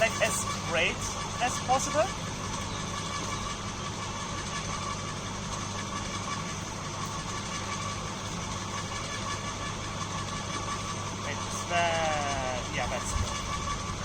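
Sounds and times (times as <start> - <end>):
electric woodchipper motor hum: 0.0 - 14.0.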